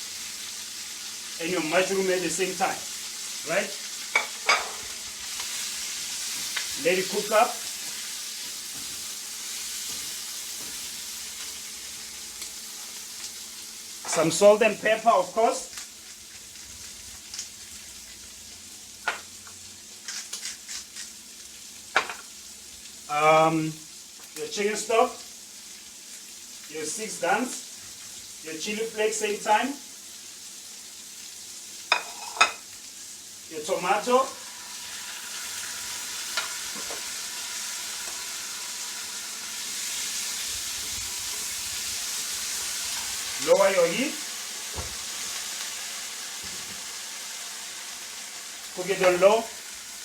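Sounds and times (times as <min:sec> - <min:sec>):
food sizzling in a pan: 0:00.0 - 0:50.0.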